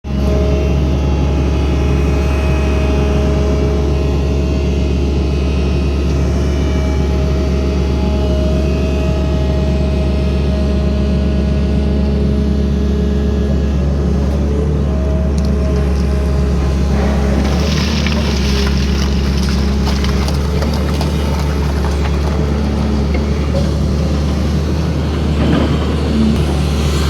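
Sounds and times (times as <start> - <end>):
excavator engine humming: 0.1 - 27.0.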